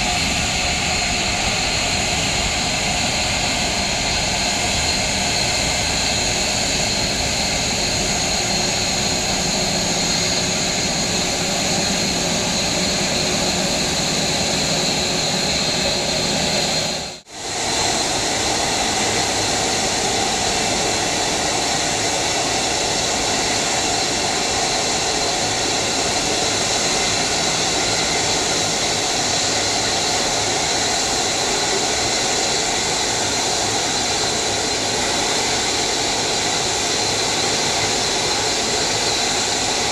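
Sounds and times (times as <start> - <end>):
jet engines hissing and whining: 0.0 - 39.9.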